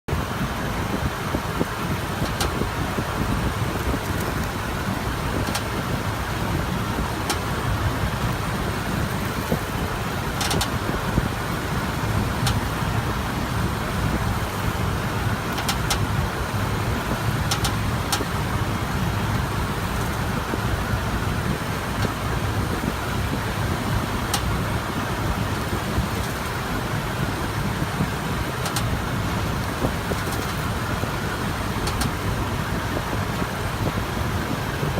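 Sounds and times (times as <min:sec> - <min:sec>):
truck road and engine rumble: 0:00.1 - 0:34.9.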